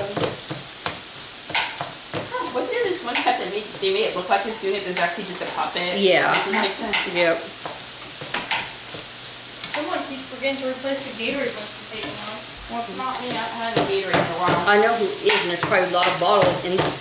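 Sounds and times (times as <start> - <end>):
ground beef sizzling: 0.0 - 17.0.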